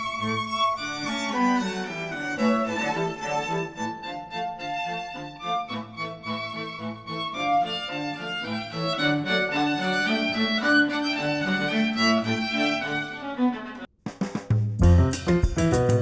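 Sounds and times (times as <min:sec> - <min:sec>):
instrumental music with bowed strings: 0:00.0 - 0:13.9.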